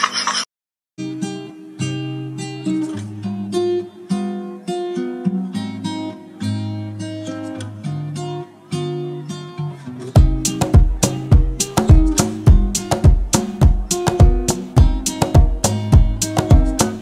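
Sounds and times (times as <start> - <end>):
acoustic guitar music: 1.0 - 17.0.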